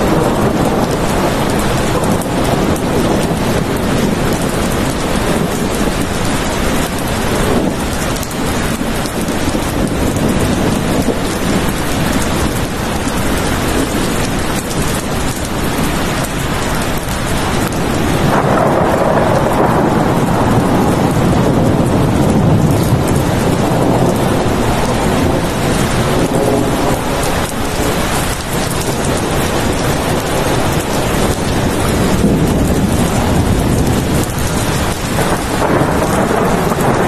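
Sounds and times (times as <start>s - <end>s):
heavy rain falling: 0.0s - 37.0s
low rumble of thunder: 0.0s - 37.0s.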